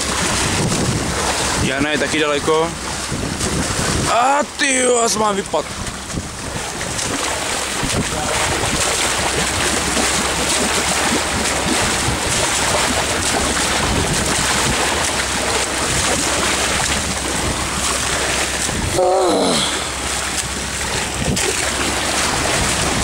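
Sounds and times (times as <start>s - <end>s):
wind on microphone: 0.0s - 4.3s, 5.4s - 23.0s
boat engine running: 0.0s - 23.0s
sea water splashing: 0.0s - 23.0s.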